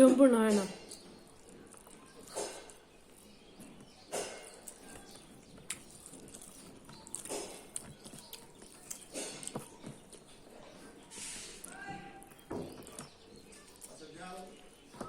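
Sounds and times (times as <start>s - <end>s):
chewing: 0.5s - 14.9s
mouth clicks and smacks: 0.7s - 14.0s.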